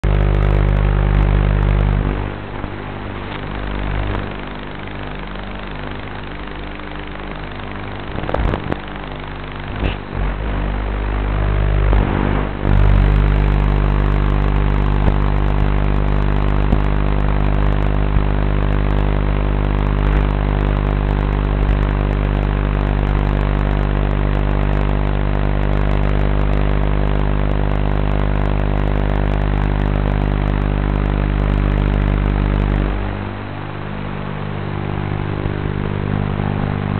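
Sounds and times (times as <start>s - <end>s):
drone buzzing hum: 0.0s - 36.9s.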